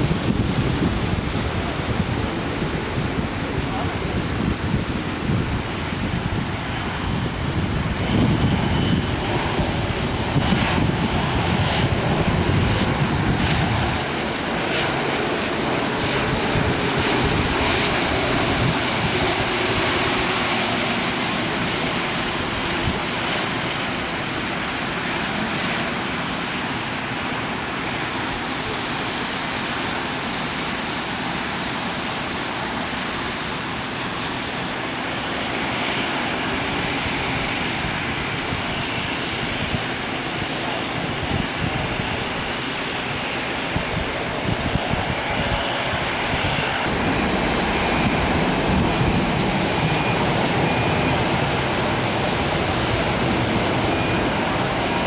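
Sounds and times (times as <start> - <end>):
jet engine rushing: 0.0 - 55.0
wind buffeting microphone: 0.0 - 55.0.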